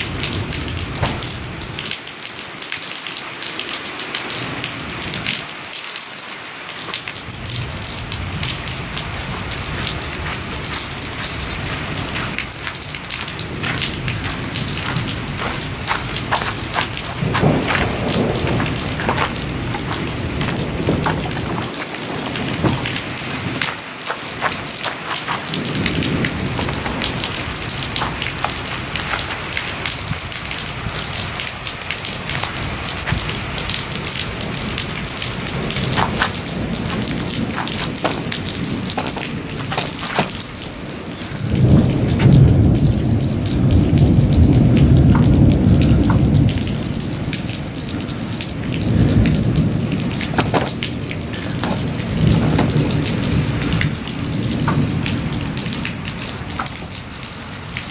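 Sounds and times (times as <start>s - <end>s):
raindrops ticking: 0.0s - 57.9s
steady rain falling: 0.0s - 57.9s
rolling thunder: 7.2s - 57.0s.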